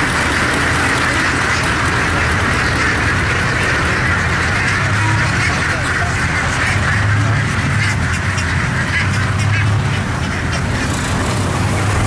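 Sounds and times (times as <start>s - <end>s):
boat engine humming: 0.0s - 12.0s
ducks quacking: 0.0s - 12.0s.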